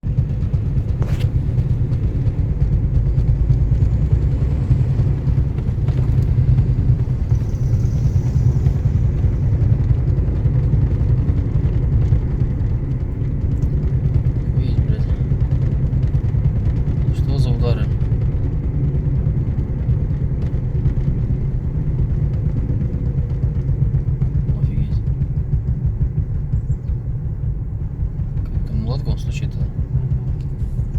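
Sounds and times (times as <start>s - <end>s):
low fluttering drivetrain rumble: 0.0s - 30.9s.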